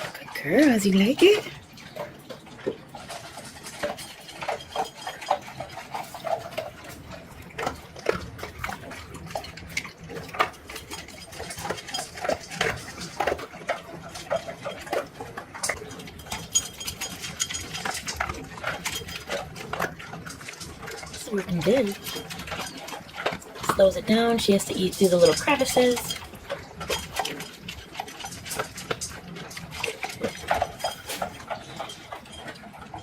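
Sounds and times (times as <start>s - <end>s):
dog crunching and chewing food: 0.0s - 33.0s.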